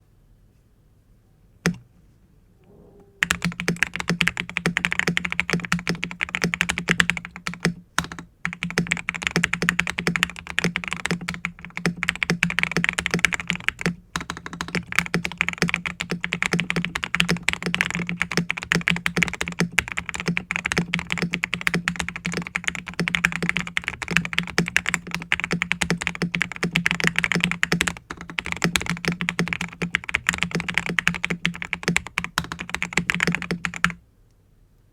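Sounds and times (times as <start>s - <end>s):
fast typing on mechanical keyboard: 3.2s - 34.0s.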